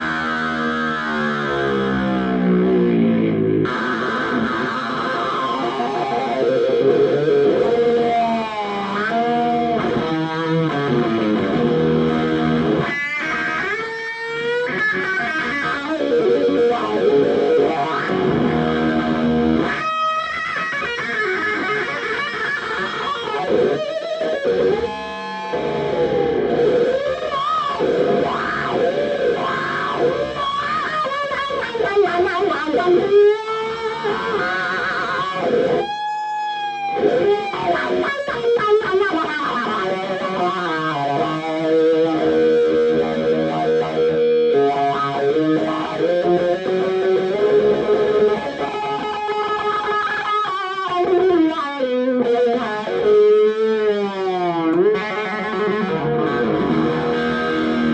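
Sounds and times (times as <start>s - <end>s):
fuzz electric guitar lead: 0.0s - 57.9s.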